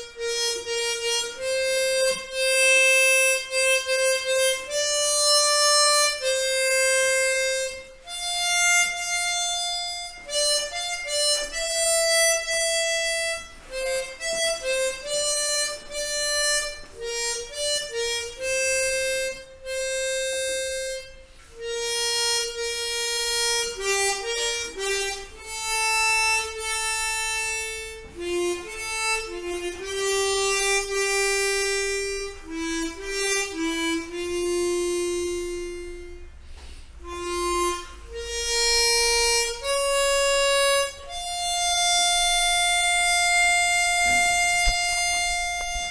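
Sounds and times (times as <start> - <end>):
harmonica playing slow melody: 0.0 - 45.9.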